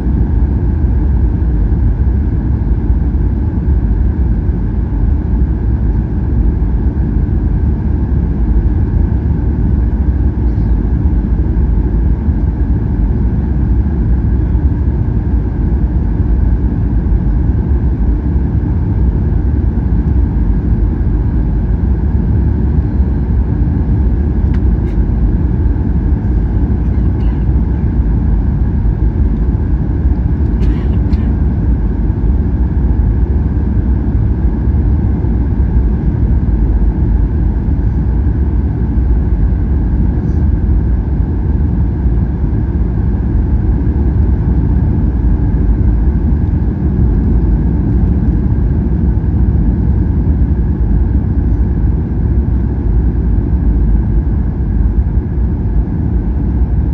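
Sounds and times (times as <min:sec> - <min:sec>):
airliner cabin engine rumble: 0:00.0 - 0:56.9
high steady hum: 0:00.0 - 0:56.9.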